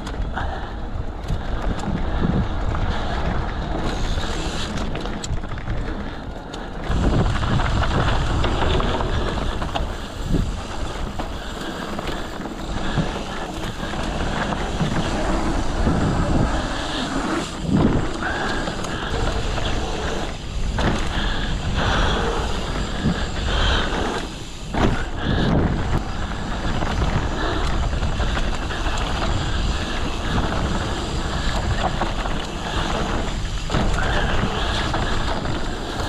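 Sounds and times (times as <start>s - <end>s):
bike rattling: 0.0s - 36.0s
tyres rumbling on dirt: 0.0s - 36.0s
wind buffeting microphone: 0.0s - 36.0s.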